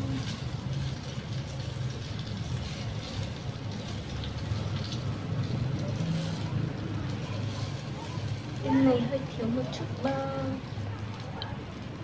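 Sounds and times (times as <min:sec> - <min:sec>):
sausages sizzling in butter: 0:00.0 - 0:12.0.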